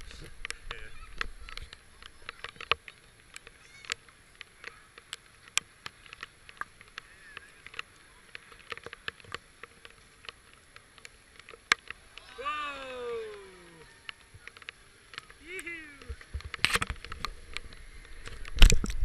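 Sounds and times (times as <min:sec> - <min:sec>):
faint steady hiss: 0:00.0 - 0:19.0
rain dripping on leaves: 0:00.4 - 0:19.0.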